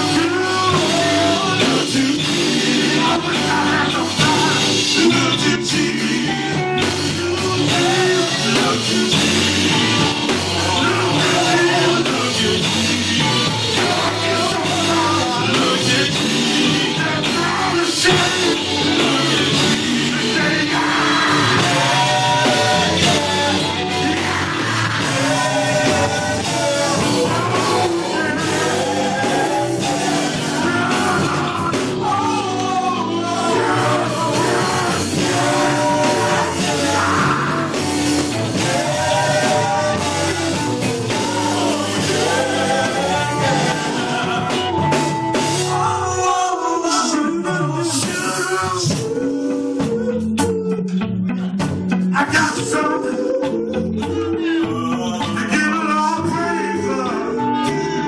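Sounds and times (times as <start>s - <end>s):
full band playing: 0.0s - 58.0s
gospel group singing: 0.0s - 58.0s.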